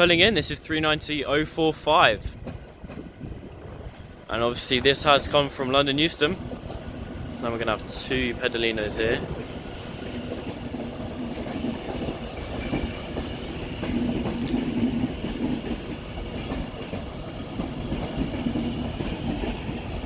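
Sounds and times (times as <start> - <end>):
electric train humming: 0.0 - 20.0
wheels clicking over rail joints: 0.0 - 20.0.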